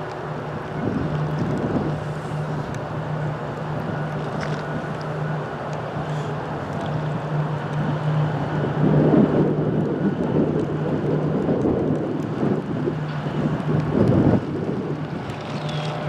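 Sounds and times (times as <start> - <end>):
rain: 0.0 - 16.0
wind buffeting microphone: 0.0 - 16.0.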